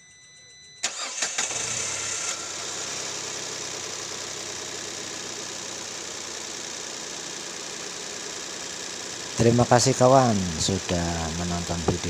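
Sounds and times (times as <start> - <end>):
car engine idling: 0.8 - 12.0.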